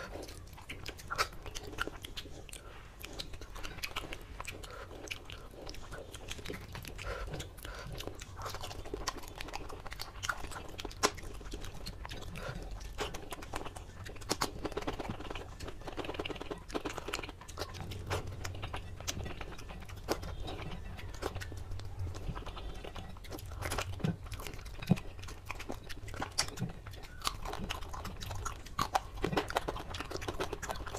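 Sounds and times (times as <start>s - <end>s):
man chewing food: 0.0s - 30.9s
mouth smacks and clicks: 0.0s - 30.9s.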